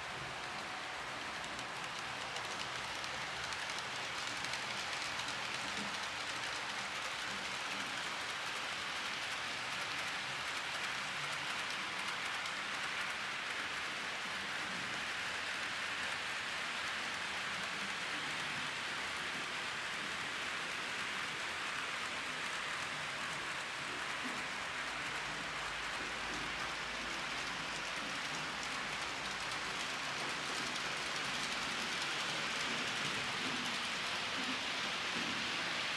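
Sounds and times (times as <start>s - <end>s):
model train wheels on rails: 0.0s - 35.9s.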